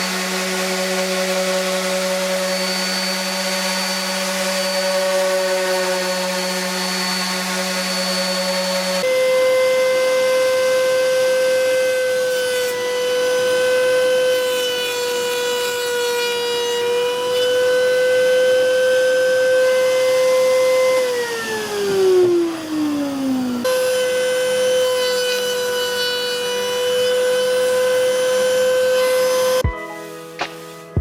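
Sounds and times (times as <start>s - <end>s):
power tool motor whining: 0.0s - 30.9s.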